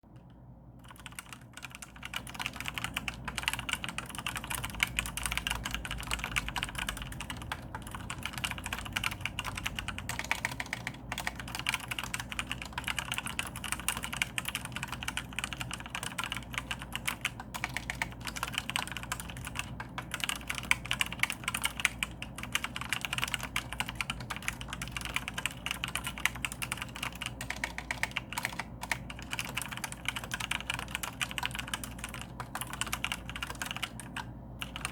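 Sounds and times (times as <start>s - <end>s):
mechanical keyboard typing: 0.2s - 34.9s.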